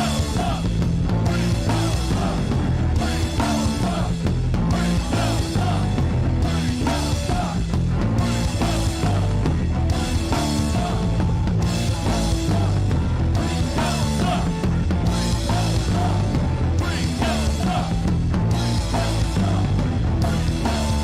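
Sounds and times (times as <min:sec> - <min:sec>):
punk rock music: 0:00.0 - 0:21.0.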